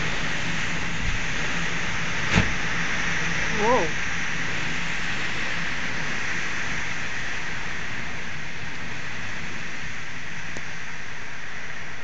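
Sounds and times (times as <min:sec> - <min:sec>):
hurricane wind: 0:00.0 - 0:12.0
rain: 0:00.0 - 0:12.0.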